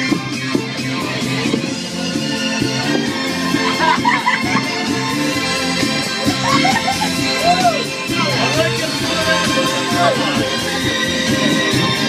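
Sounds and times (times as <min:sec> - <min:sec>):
loud music with bass beat: 0:00.0 - 0:12.0.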